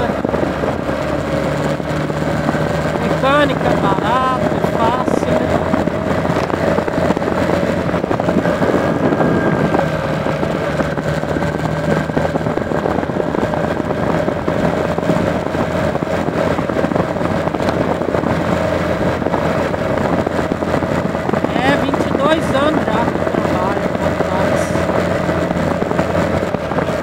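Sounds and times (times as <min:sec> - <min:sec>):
motorcycle engine running: 0:00.0 - 0:27.0
road and wind noise: 0:00.0 - 0:27.0.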